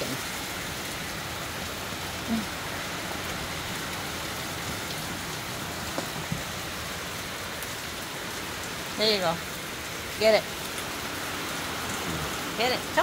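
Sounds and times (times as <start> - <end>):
hard rain hissing: 0.0 - 13.0.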